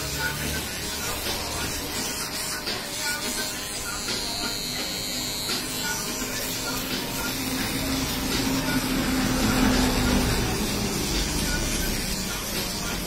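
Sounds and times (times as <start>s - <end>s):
electric shaver buzzing: 0.0s - 13.0s.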